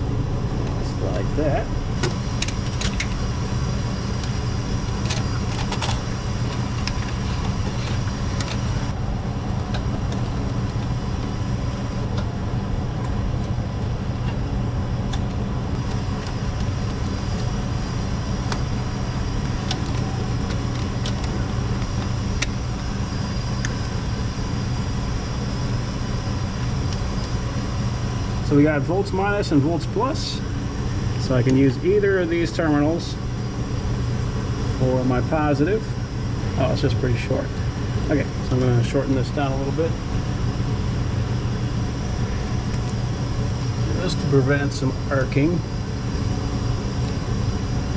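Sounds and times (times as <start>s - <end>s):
industrial machinery drone: 0.0s - 47.9s.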